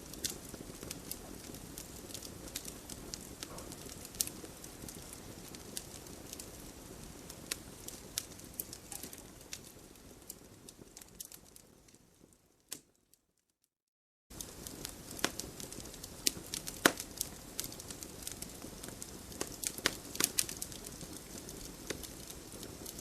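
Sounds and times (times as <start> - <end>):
campfire crackling: 0.0 - 13.0, 14.3 - 23.0.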